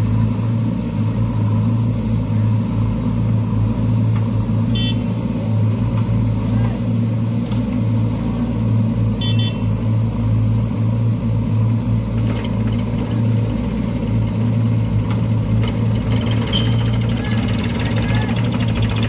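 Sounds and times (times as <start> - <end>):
diesel engines humming: 0.0 - 19.0.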